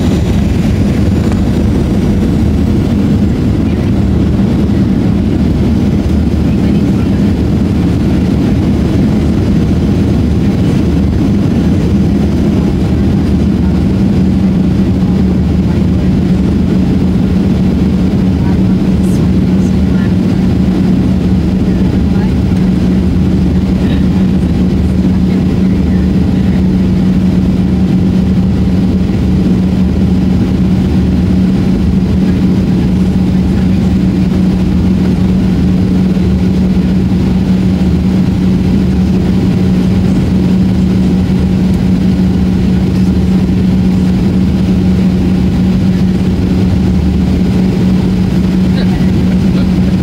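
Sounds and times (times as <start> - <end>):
airplane cabin engine drone: 0.0 - 50.0.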